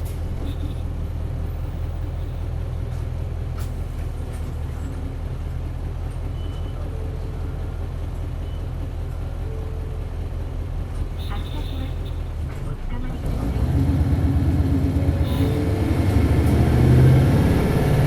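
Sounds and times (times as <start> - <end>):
bus diesel engine running: 0.0 - 18.0
road noise: 0.0 - 18.0.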